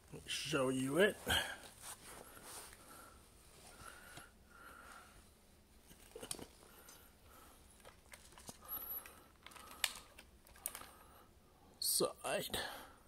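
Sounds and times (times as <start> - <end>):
faint rustling: 0.3 - 11.2.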